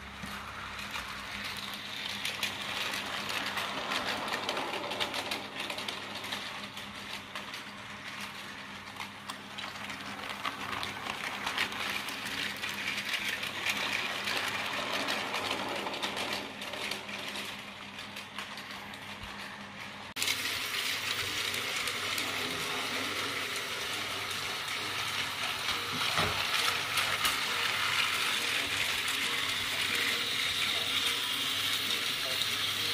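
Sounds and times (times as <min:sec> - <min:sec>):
toy train motor whirring: 0:00.0 - 0:32.9
wheels rattling on plastic track: 0:00.0 - 0:32.9.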